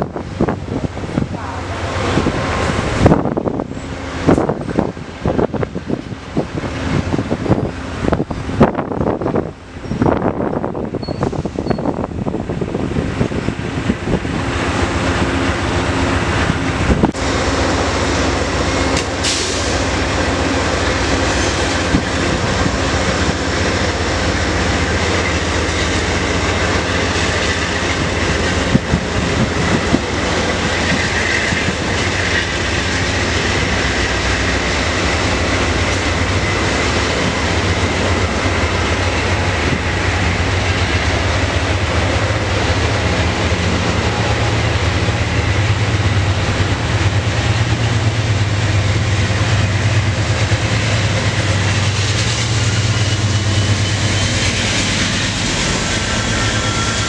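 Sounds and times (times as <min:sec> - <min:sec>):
train wheels rumbling over rails: 0:00.0 - 0:57.0.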